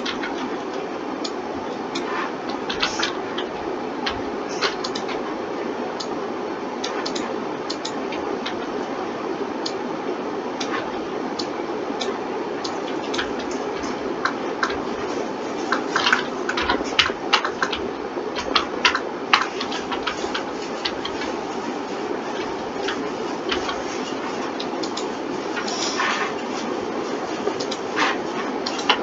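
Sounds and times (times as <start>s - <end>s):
mouse and keyboard clicking: 0.0s - 5.3s, 6.8s - 8.7s, 10.6s - 26.7s, 27.4s - 29.0s
steady hum: 0.0s - 29.0s.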